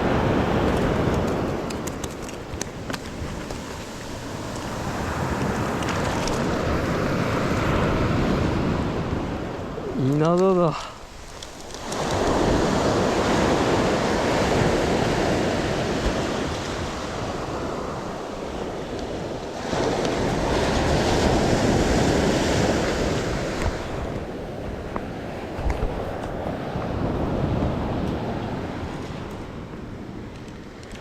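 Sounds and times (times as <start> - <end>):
surf breaking on beach: 0.0 - 29.3
wind rumbling on microphone: 0.0 - 31.0.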